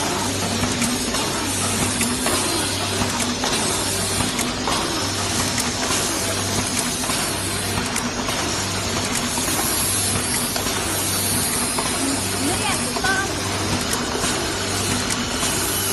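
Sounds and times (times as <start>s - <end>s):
machine mechanical clatter: 0.0s - 15.9s.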